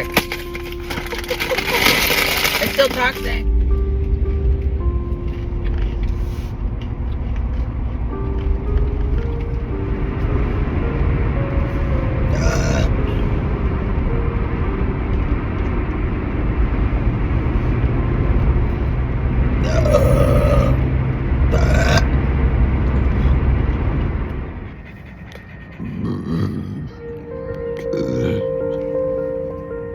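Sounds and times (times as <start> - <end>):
car cabin road rumble: 0.0 - 25.0.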